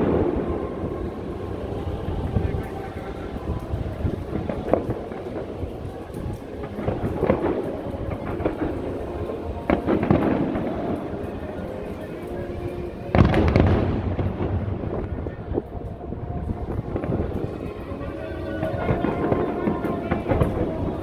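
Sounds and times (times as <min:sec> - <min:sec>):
faint music: 0:00.0 - 0:21.0
fireworks bursting and crackling: 0:00.0 - 0:21.0.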